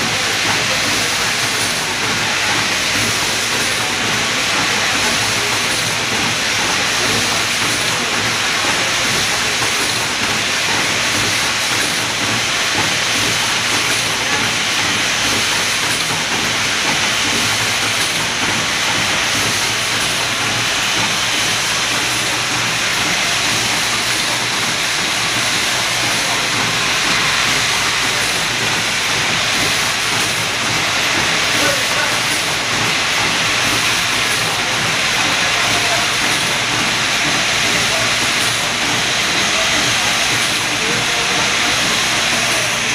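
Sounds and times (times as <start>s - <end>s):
machine hissing: 0.0s - 42.9s.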